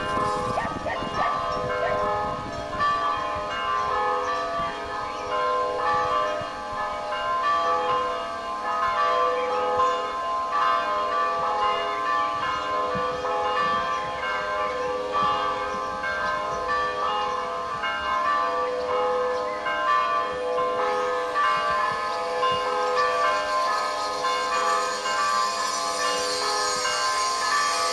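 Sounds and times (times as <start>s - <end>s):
church bells pealing: 0.0s - 27.9s.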